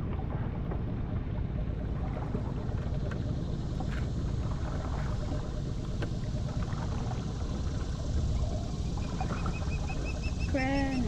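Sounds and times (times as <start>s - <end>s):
small boat motor rumbling: 0.0s - 11.0s.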